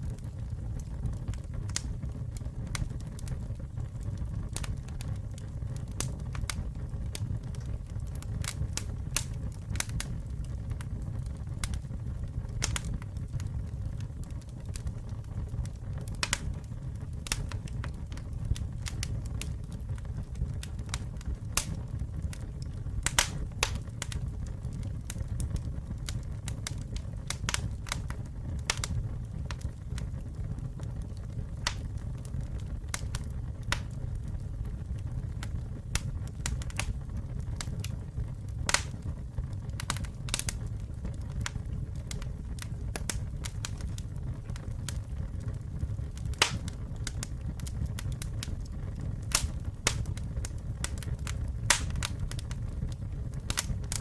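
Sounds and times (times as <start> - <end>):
low rumble of flames: 0.0 - 54.0
wood crackling and popping: 0.0 - 54.0.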